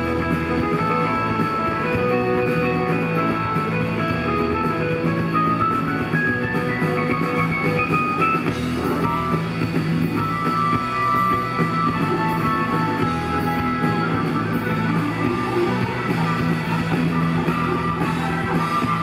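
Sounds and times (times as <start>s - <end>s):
live rock band playing: 0.0s - 19.0s
melodic electric guitar lead: 0.0s - 19.0s.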